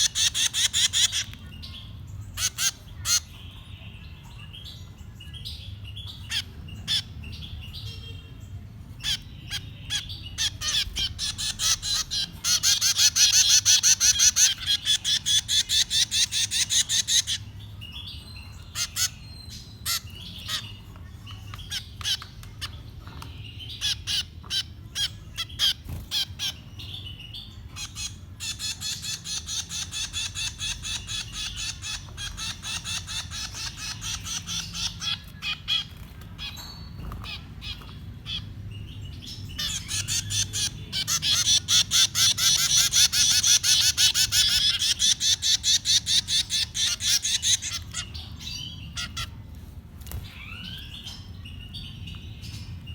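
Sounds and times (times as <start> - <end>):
nestling birds chirping: 0.0 - 52.9.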